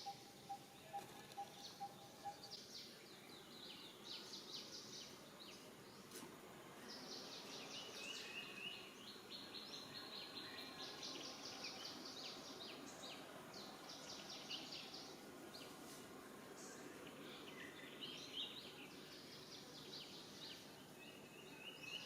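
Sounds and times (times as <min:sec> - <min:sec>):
low even background noise: 0:00.0 - 0:22.0.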